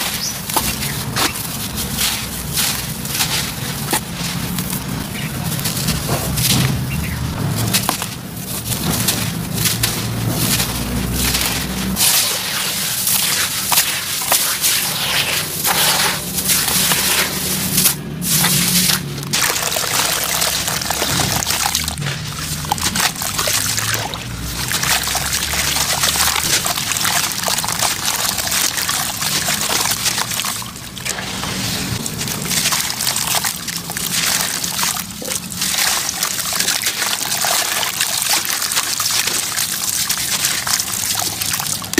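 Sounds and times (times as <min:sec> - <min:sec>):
dry sand pouring through fingers: 0:00.0 - 0:06.0, 0:08.2 - 0:41.5
gritty crunching of wet cement: 0:00.0 - 0:41.9
water sloshing and splashing: 0:00.0 - 0:41.9.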